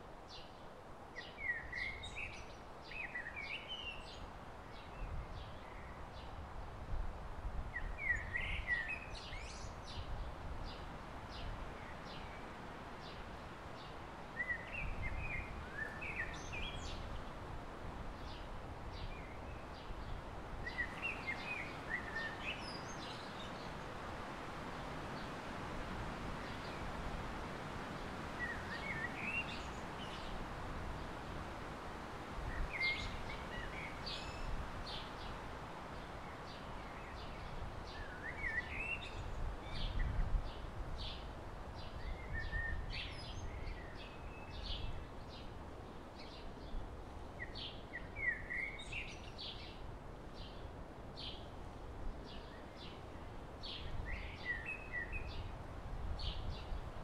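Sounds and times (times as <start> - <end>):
songbirds singing: 1.2 - 6.5, 7.7 - 57.0
wind rumble on microphone: 1.4 - 57.0.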